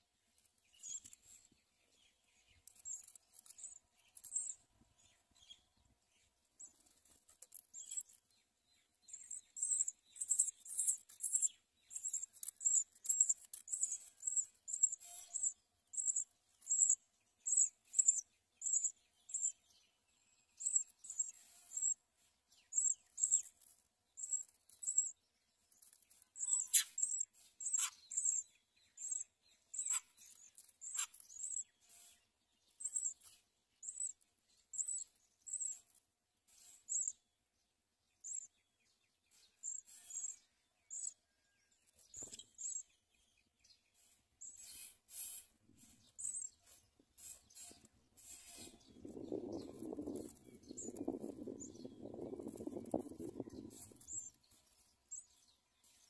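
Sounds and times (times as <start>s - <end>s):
small bird chirping: 0.0s - 56.0s.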